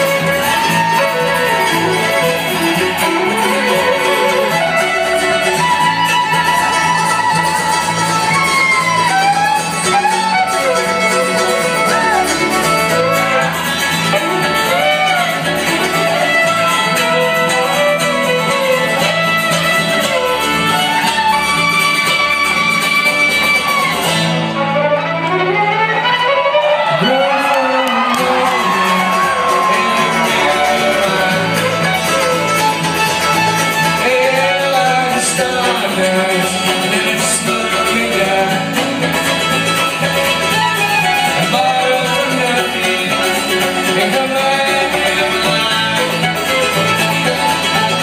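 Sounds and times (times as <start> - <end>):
fiddle melody: 0.0 - 48.0
plucked strings: 0.0 - 48.0
strummed guitar: 0.0 - 48.0.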